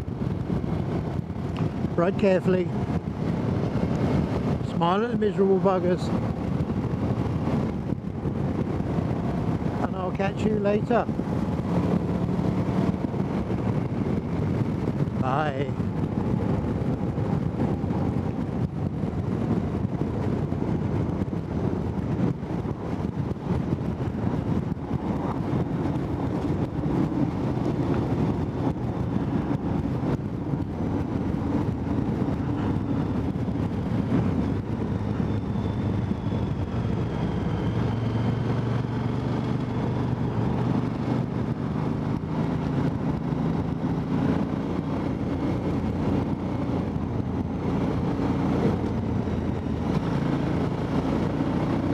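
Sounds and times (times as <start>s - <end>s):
motorcycle engine droning: 0.0s - 51.9s.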